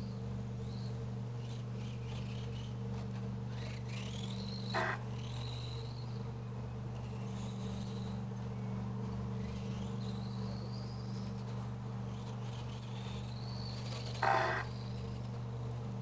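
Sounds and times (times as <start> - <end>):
electric motors whining: 0.0 - 16.0
low electrical hum: 0.0 - 16.0.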